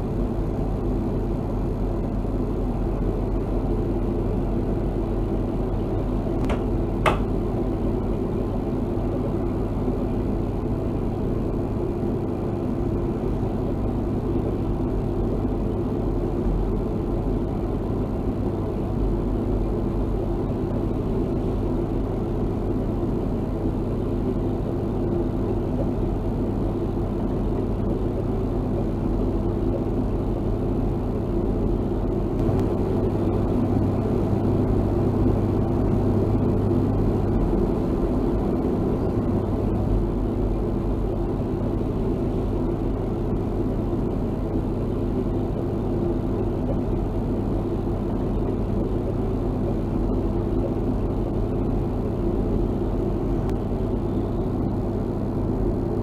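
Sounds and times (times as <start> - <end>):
air conditioning unit humming: 0.0 - 56.0.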